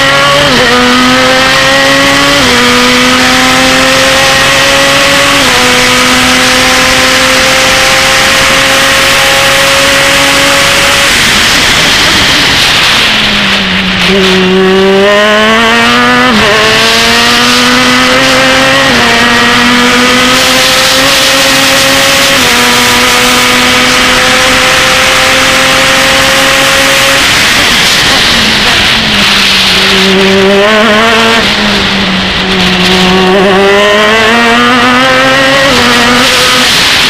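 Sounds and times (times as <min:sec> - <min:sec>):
quick gear upshifts: 0:00.0 - 0:37.0
race car engine revving: 0:00.0 - 0:37.0.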